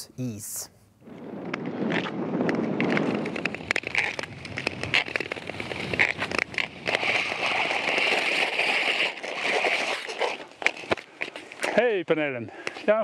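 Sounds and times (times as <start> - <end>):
ice crackling clicks: 1.2 - 12.0
ice skates scraping on ice: 1.8 - 13.0.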